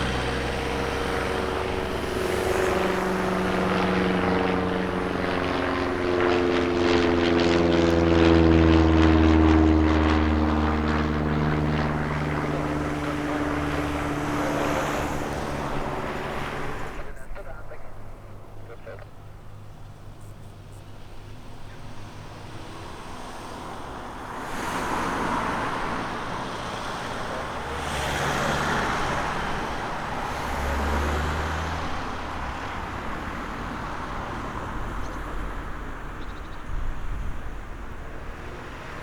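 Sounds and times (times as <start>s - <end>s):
propeller aircraft passing: 0.0s - 39.0s.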